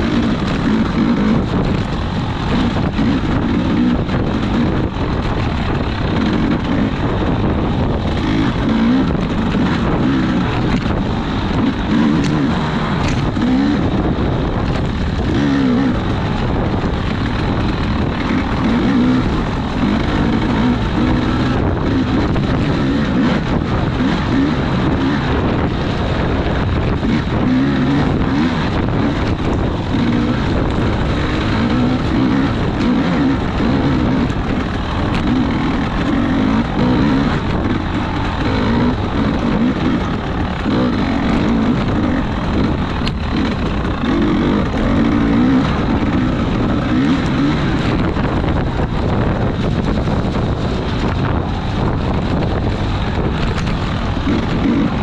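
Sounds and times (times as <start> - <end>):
race vehicle engine revving: 0.0 - 55.0.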